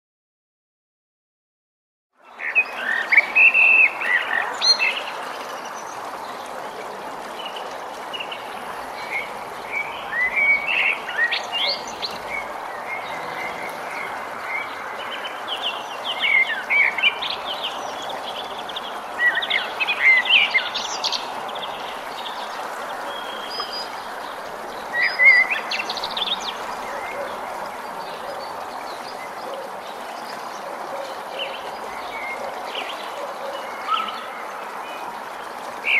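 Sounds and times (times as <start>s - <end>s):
songbirds singing and chirping: 2.2s - 35.9s.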